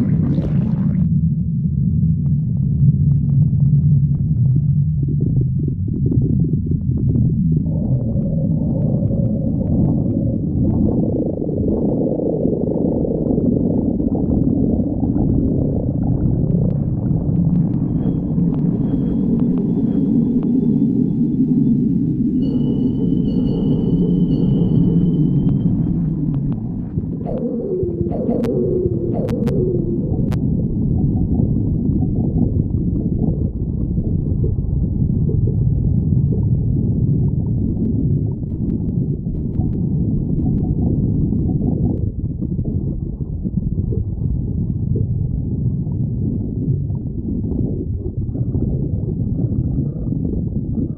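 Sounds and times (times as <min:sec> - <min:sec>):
stomach growling: 0:00.0 - 0:01.2, 0:02.1 - 0:50.9.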